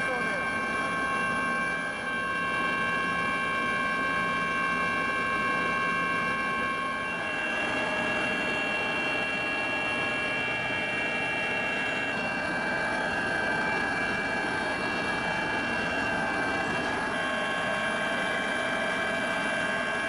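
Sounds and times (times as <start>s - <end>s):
high whining engine tones: 0.0s - 20.0s.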